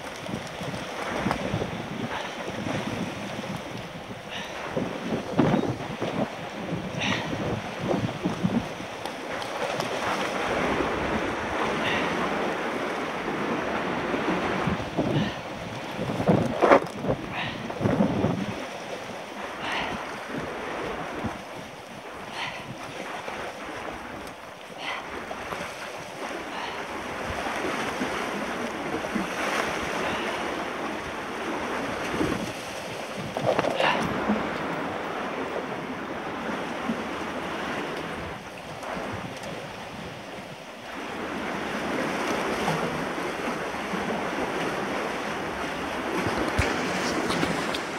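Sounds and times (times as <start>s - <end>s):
surf washing on shore: 0.0s - 47.9s
wind buffeting microphone: 0.0s - 47.9s.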